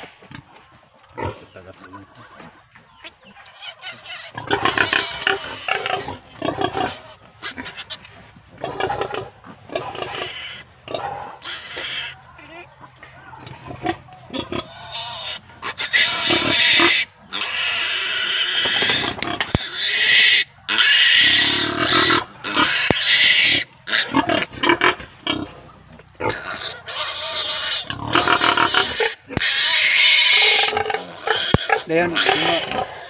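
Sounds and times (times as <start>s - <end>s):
piglet squealing: 2.2s - 9.2s, 9.8s - 12.7s, 13.4s - 25.0s, 26.2s - 33.0s.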